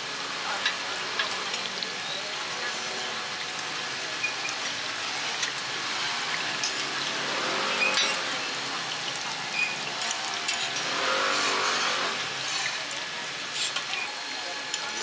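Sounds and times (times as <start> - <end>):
pancakes sizzling on griddle: 0.0 - 15.0.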